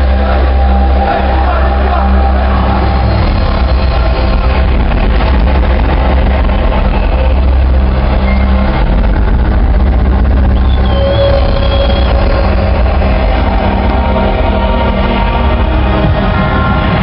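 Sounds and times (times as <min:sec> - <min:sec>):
loud rock concert low rumble: 0:00.0 - 0:17.0.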